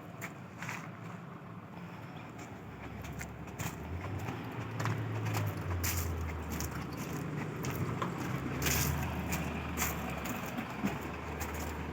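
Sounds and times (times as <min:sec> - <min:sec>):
diesel truck engine idling: 0:00.0 - 0:11.9.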